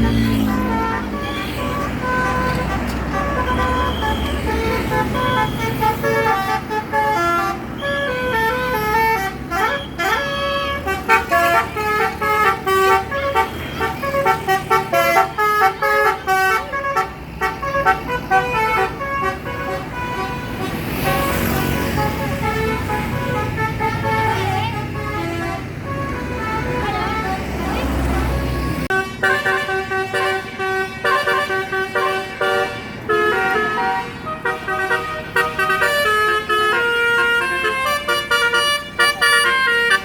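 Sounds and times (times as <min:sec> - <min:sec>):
bus engine idling: 0:00.0 - 0:40.0
musical air horn melody: 0:00.0 - 0:40.0.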